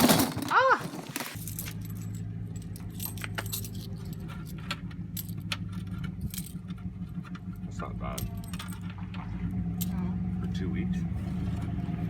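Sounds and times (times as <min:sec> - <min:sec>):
metallic jingling and clinking: 0:00.0 - 0:10.2
steady low hum: 0:01.4 - 0:12.0.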